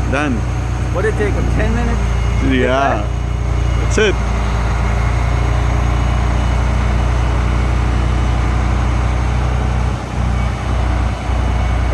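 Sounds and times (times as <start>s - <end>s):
large engine idling: 0.0s - 11.9s.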